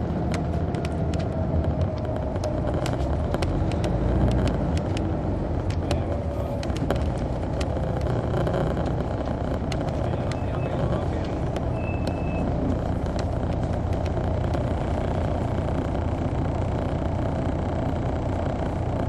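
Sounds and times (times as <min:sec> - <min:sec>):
bus diesel engine rumble: 0:00.0 - 0:19.0.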